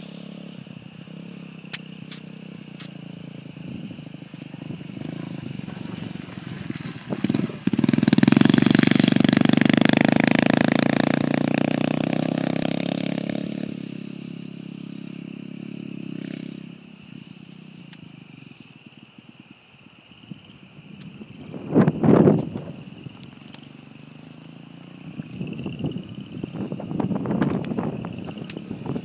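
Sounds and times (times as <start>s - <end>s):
dirt bike engine passing: 0.0s - 18.6s, 21.5s - 29.0s.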